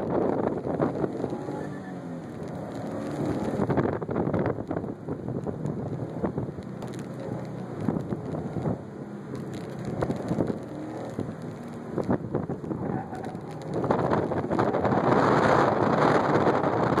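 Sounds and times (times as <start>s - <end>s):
car engine under load: 0.0s - 17.0s
tyre and wind noise: 0.0s - 17.0s.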